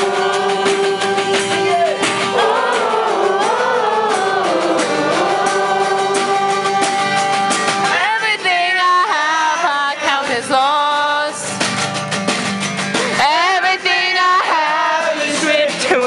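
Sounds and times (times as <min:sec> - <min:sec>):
voices singing: 0:00.0 - 0:11.4, 0:13.2 - 0:16.0
acoustic guitar: 0:00.0 - 0:16.0.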